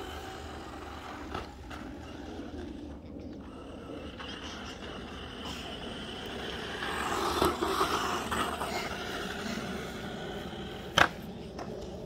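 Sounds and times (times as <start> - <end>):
remote-control car motor: 0.0 - 12.0.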